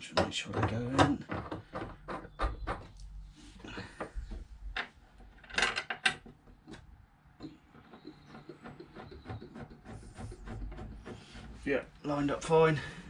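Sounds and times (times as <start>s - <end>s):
metal knocking and scraping on wood: 0.0s - 13.0s.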